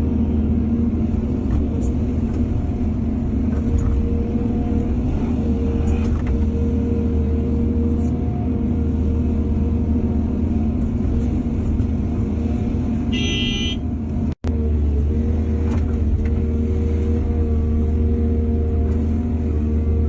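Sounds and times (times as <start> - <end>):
heavy diesel engines droning: 0.0 - 20.0.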